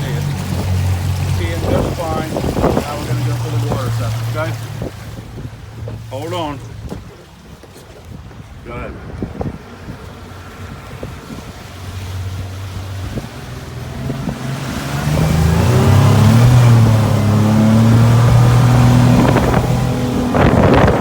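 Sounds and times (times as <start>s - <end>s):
boat engine accelerating: 0.0s - 21.0s
wind and water rushing: 0.0s - 21.0s.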